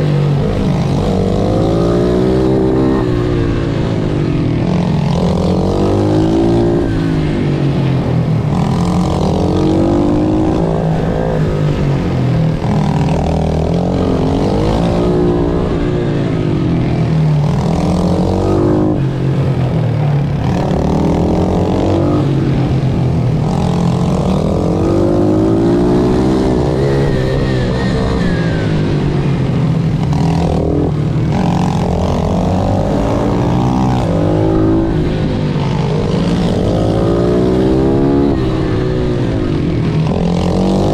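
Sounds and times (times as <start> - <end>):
pit bike engine revving: 0.0 - 40.9
steady low drone: 0.0 - 40.9.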